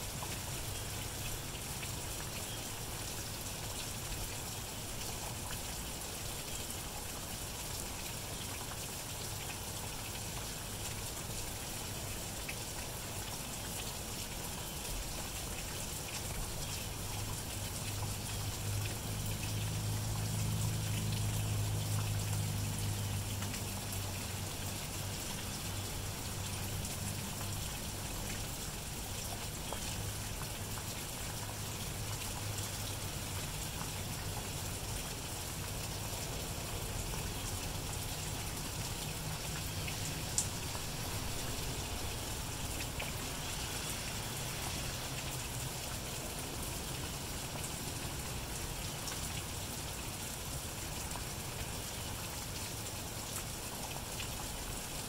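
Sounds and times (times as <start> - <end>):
light rain on grass and road: 0.0 - 55.0.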